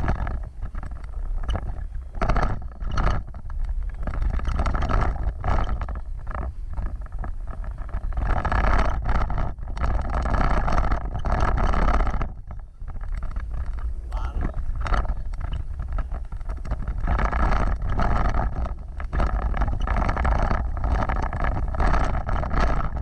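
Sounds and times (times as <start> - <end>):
off-road vehicle rumbling: 0.0 - 23.0.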